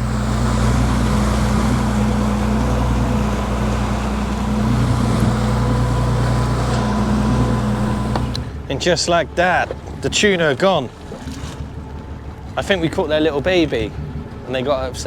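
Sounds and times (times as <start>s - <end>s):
boat engine droning: 0.0s - 15.0s
water noise: 0.0s - 15.0s
wind: 0.0s - 15.0s.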